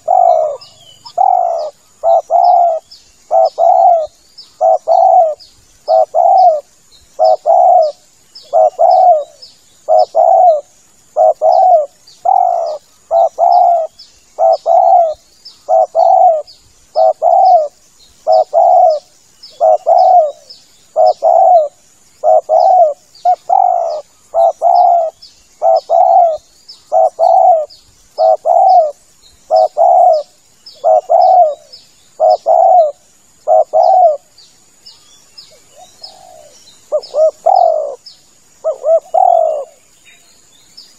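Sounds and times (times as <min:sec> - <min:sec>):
dove cooing: 0:00.0 - 0:34.3, 0:35.5 - 0:38.0, 0:38.6 - 0:39.8.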